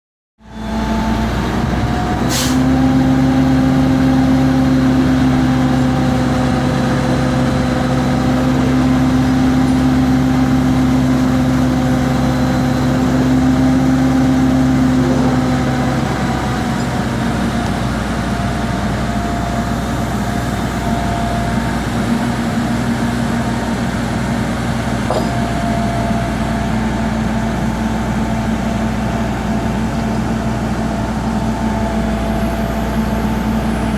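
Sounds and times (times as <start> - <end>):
heavy machinery engine running: 0.4 - 33.9.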